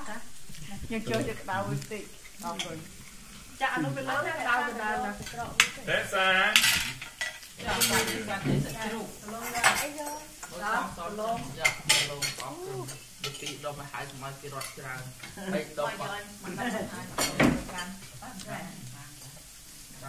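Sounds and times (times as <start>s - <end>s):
voices: 0.0s - 6.8s, 7.6s - 19.4s.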